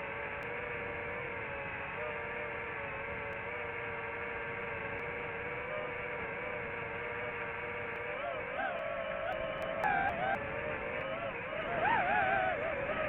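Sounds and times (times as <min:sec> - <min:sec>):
drone propeller motors whining: 0:00.0 - 0:13.0.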